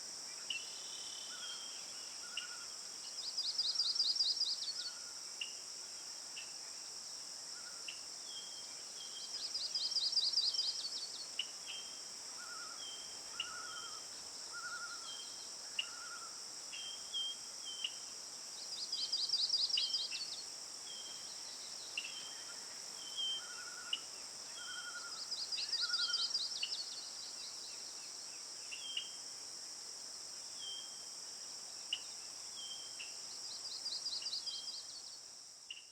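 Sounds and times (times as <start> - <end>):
insect drone: 0.0 - 35.9.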